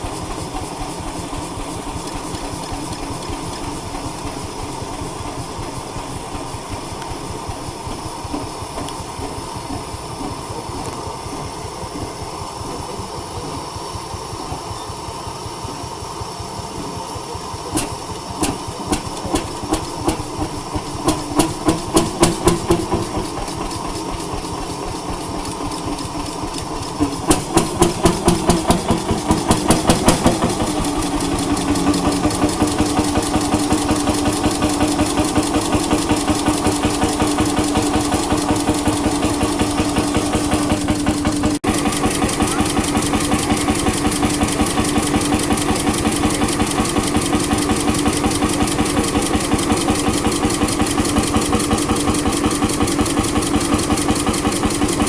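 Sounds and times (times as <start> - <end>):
old stationary engine running: 0.0 - 55.0.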